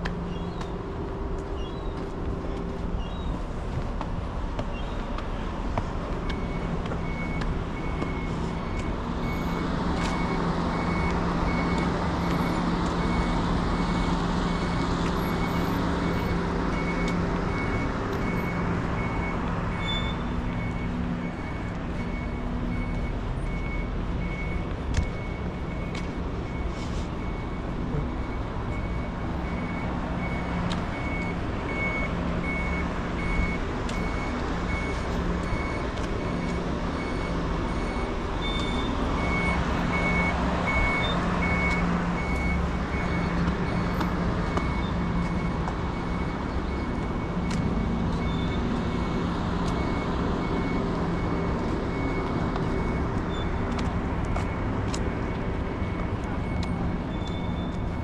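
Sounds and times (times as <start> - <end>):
street noise: 0.0 - 58.0
reversing alarm beeps: 6.2 - 58.0.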